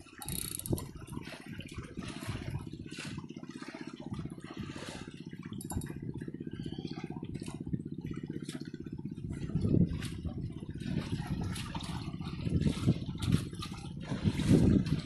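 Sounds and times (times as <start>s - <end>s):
boat engine running: 0.0s - 15.0s
water splashing: 0.0s - 15.0s.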